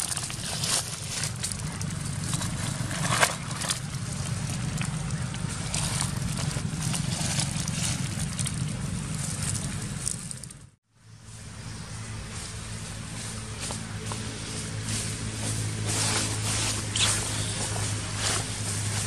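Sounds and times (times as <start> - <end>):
leaves crunching underfoot: 0.0 - 10.7, 11.4 - 19.0
steady low hum: 0.0 - 19.0.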